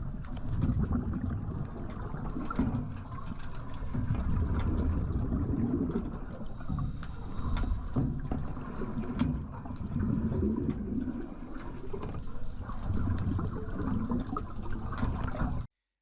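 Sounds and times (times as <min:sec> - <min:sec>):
underwater water churning: 0:00.0 - 0:15.7.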